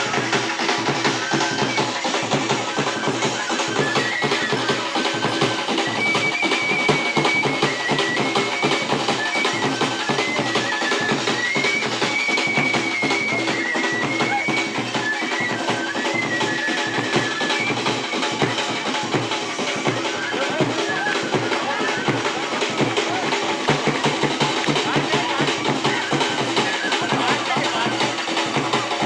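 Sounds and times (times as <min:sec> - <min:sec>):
dhol drums fast rhythm: 0:00.0 - 0:29.0.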